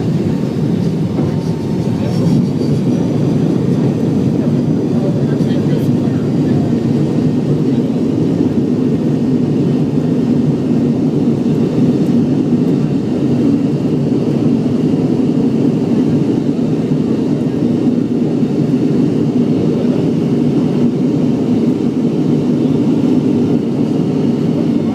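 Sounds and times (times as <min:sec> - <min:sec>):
airliner cabin jet engine rumble: 0:00.0 - 0:24.9.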